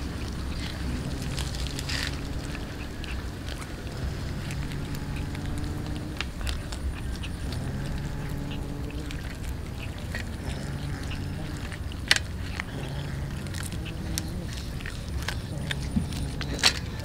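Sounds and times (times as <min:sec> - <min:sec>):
cat growling: 0:00.0 - 0:17.0
cats chewing raw fish: 0:00.0 - 0:17.0.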